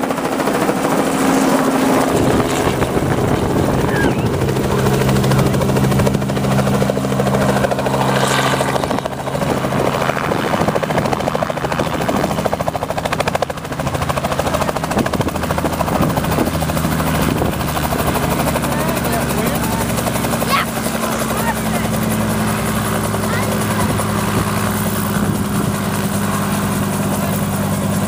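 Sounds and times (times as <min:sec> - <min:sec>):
helicopter engine drone: 0:00.0 - 0:28.0
helicopter rotor chopping: 0:00.0 - 0:28.0.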